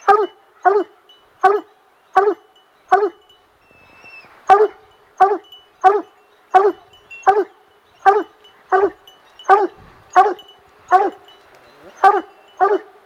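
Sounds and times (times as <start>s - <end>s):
dog barking: 0.0s - 3.2s, 4.5s - 11.2s, 12.0s - 13.0s.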